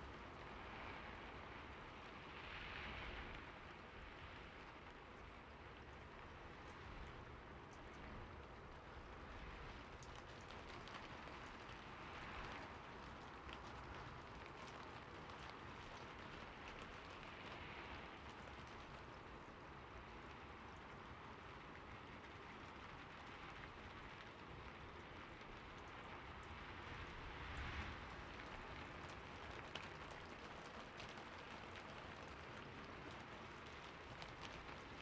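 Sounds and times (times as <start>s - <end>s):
faint rain on a roof: 0.0s - 35.0s.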